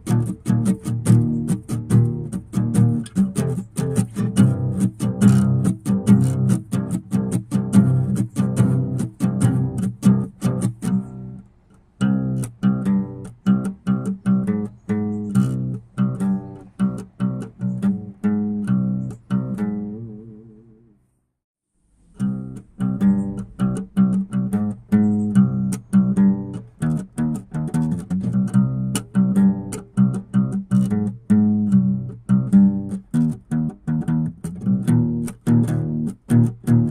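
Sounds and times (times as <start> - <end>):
plucked guitar and bass tune: 0.0 - 21.0, 22.1 - 36.9.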